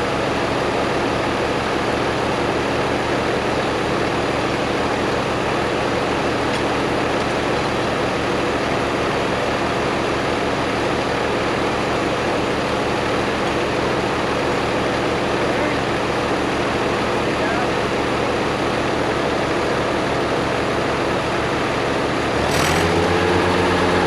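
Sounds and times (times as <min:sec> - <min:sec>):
machine engine running steadily: 0:00.0 - 0:24.0.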